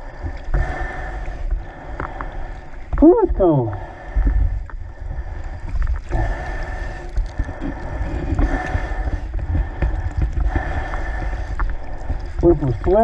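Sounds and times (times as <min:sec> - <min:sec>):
fins kicking water: 0:00.0 - 0:13.0
low rumbling wind buffet: 0:00.0 - 0:13.0
water sloshing and splashing: 0:00.0 - 0:13.0.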